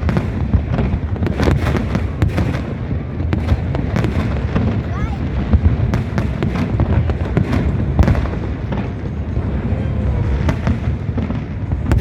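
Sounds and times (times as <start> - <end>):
sharp firework cracks: 0.0 - 9.2, 10.3 - 12.0
fireworks rumbling bursts: 0.0 - 12.0.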